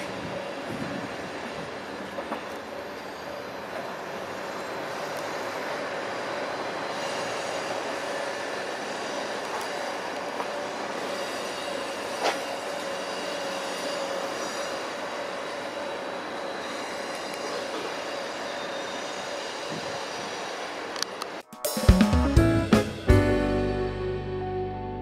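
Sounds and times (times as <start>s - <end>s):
train rumbling: 0.0s - 24.8s.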